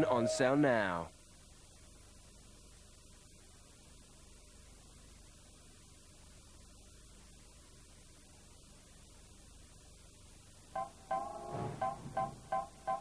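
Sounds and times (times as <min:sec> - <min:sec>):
faint mains hum with hiss: 0:00.0 - 0:13.0.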